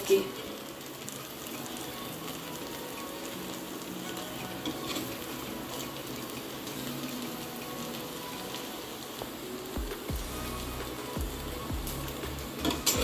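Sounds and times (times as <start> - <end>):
pot sizzling hiss: 0.0 - 13.0.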